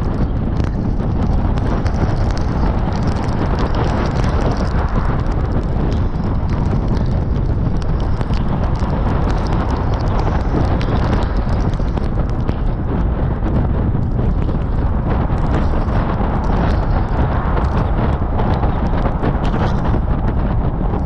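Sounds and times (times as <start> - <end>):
raindrops ticking on camera: 0.0 - 21.0
wind buffeting microphone: 0.0 - 21.0.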